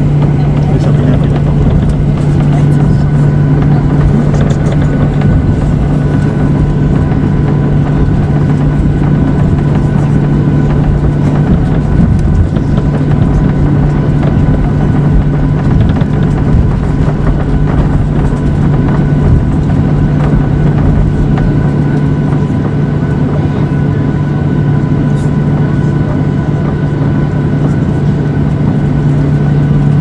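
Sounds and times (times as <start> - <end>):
jet engine cabin drone: 0.0 - 30.0.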